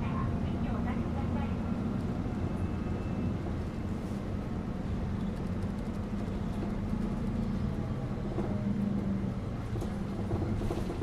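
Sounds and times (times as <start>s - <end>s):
bus engine hum and road rumble: 0.0s - 11.0s.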